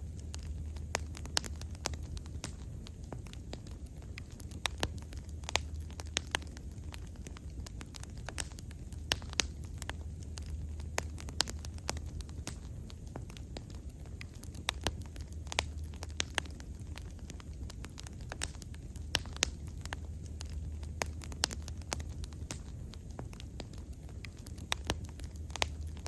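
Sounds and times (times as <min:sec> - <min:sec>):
burning wood crackling and popping: 0:00.0 - 0:26.0
low rumble of flames: 0:00.0 - 0:26.0.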